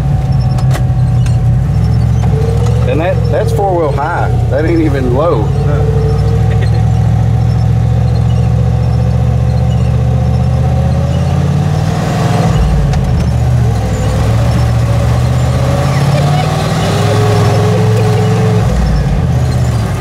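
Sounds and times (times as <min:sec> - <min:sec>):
thin whine: 0:00.0 - 0:19.6
engine running under load: 0:00.0 - 0:20.0.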